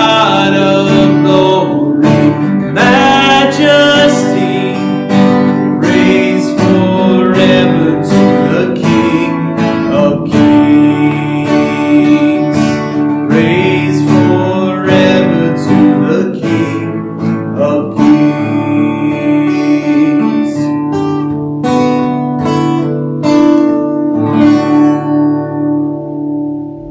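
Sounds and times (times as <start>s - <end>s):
acoustic guitar strumming: 0.0s - 26.9s
electric guitar strumming: 0.0s - 26.9s.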